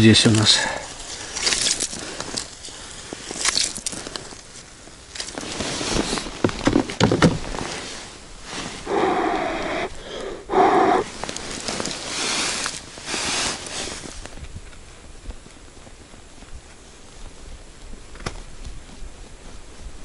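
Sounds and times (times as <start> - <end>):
crunching snow: 0.3 - 6.6, 7.4 - 20.0
winter clothing rustling: 0.9 - 6.7, 7.4 - 20.0.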